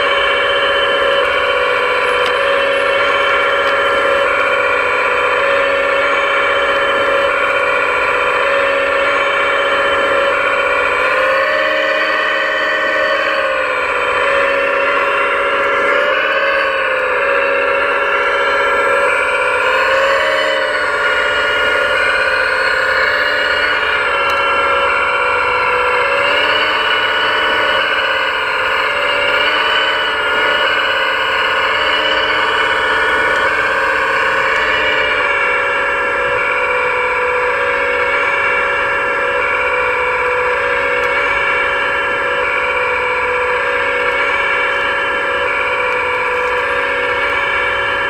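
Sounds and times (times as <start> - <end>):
model motors whining: 0.0 - 48.0.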